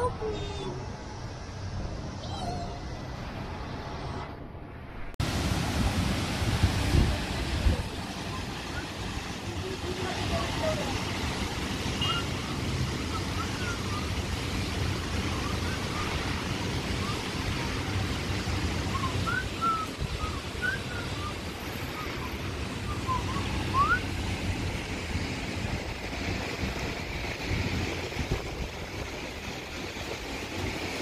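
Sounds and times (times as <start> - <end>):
wind on the microphone: 5.0 - 31.0.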